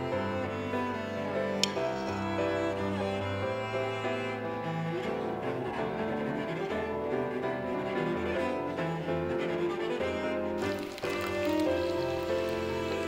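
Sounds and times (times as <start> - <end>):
slow bowed strings music: 0.0 - 13.0.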